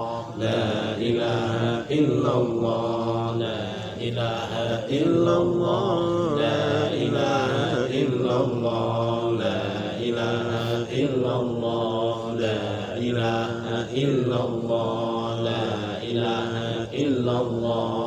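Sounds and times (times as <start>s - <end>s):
men chanting together: 0.0s - 18.0s.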